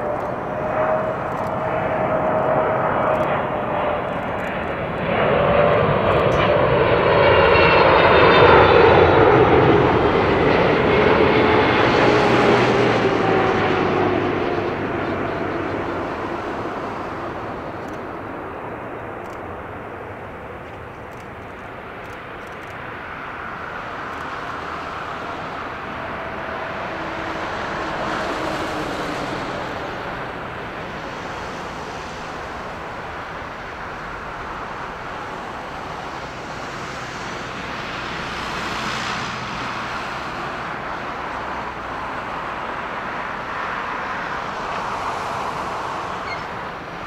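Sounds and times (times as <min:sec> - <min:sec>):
distant jet engine rush: 0:00.0 - 0:47.0.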